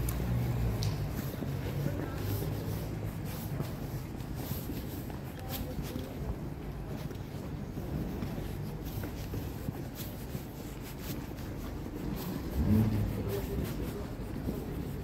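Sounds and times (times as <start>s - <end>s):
distant traffic and people rumble: 0.0s - 15.0s.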